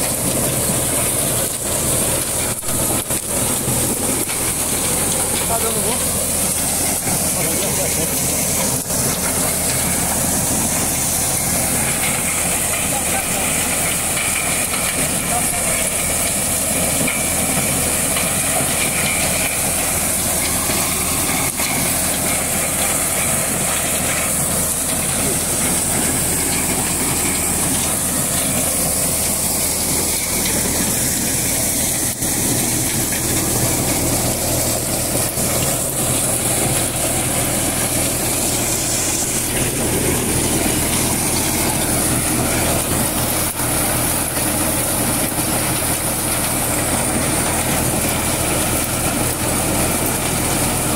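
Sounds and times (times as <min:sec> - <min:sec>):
corn sheller hissing: 0:00.0 - 0:50.9
tractor engine hum: 0:00.0 - 0:50.9.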